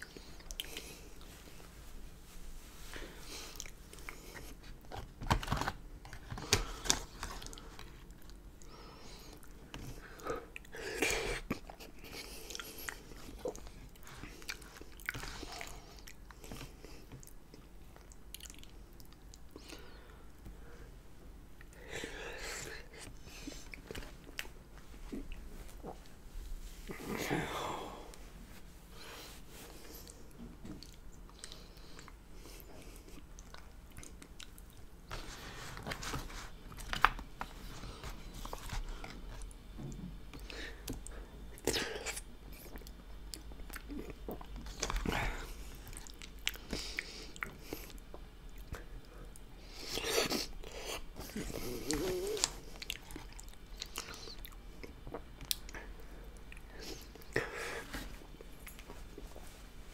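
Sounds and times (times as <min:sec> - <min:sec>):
chewing with crackly mouth sounds: 0:00.0 - 0:01.7, 0:03.3 - 0:20.5, 0:22.5 - 0:26.2, 0:29.0 - 0:59.6.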